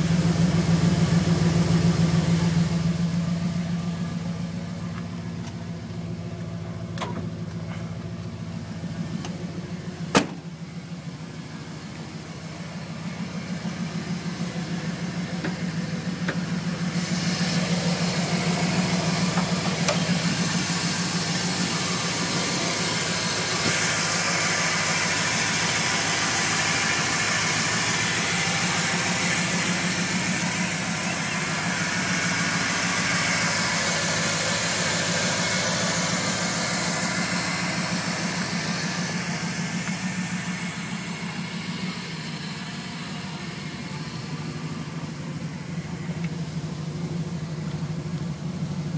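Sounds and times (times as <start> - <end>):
truck engine idling: 0.0 - 48.9.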